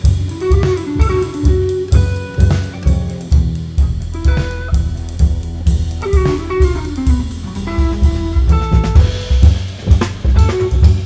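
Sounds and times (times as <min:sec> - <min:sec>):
drum kit: 0:00.0 - 0:11.0
electric guitar: 0:00.0 - 0:11.0
upright double bass: 0:00.0 - 0:11.0.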